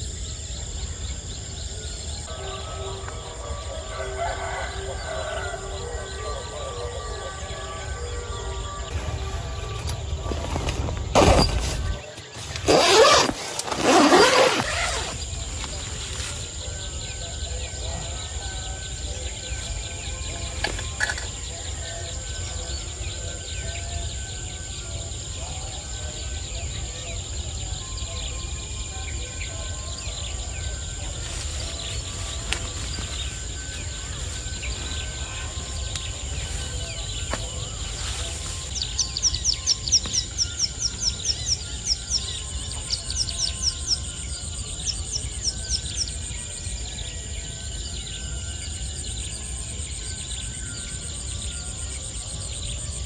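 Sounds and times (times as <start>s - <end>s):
bird chirping: 8.3s - 52.9s.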